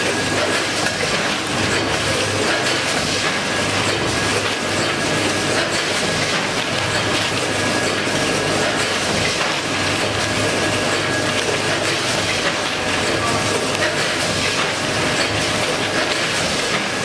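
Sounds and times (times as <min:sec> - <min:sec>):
packing machine running: 0:00.0 - 0:17.0.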